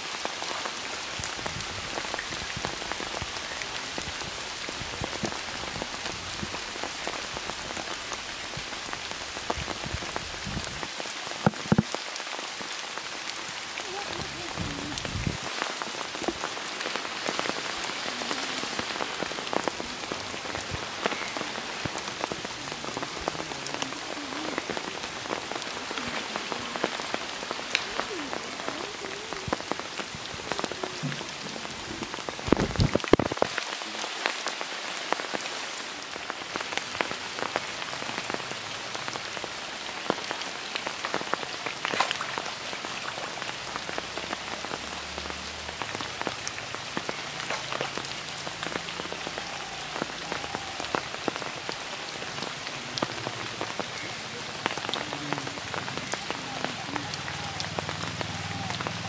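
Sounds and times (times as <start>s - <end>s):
rain falling on a pond: 0.0s - 59.0s.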